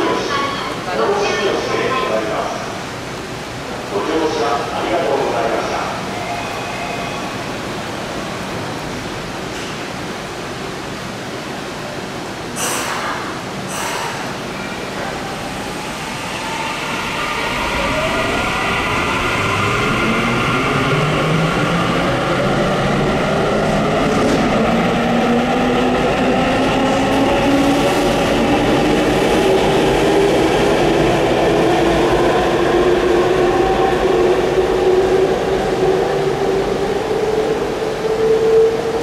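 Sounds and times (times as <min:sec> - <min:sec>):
rumble of running train: 0:00.0 - 0:39.0.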